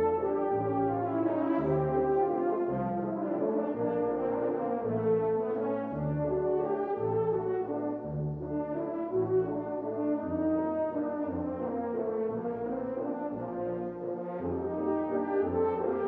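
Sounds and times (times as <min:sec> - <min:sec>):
french horn ensemble playing chords: 0:00.0 - 0:16.0.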